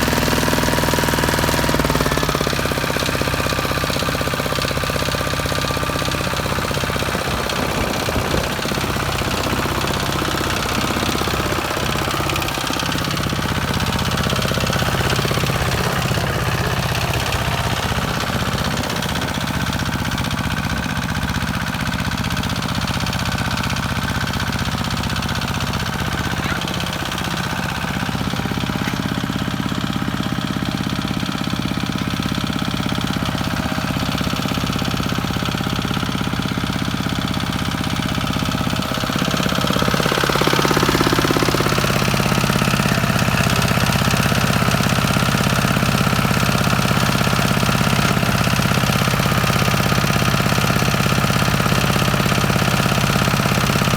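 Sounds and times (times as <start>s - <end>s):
diesel tractor engine running: 0.0s - 53.9s.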